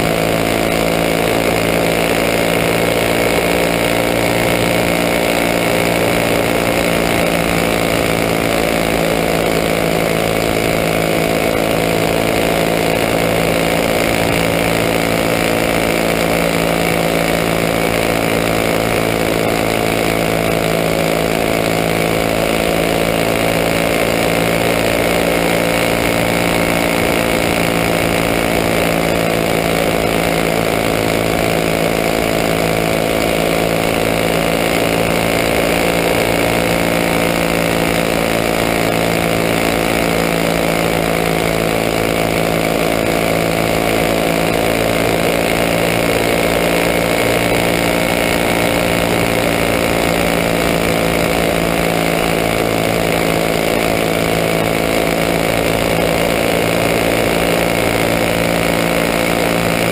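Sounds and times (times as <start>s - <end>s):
kart engine at high revs: 0.0s - 59.9s.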